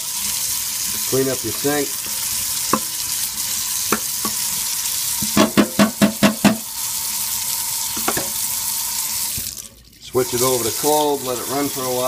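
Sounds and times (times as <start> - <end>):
tap water running into sink: 0.0 - 12.0.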